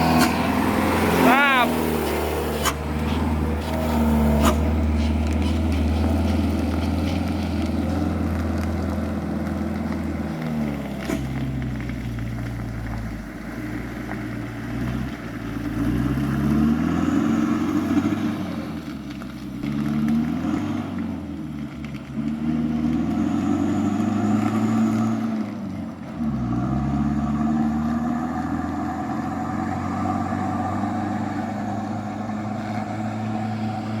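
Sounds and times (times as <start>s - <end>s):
dump truck engine under load: 0.0s - 34.0s.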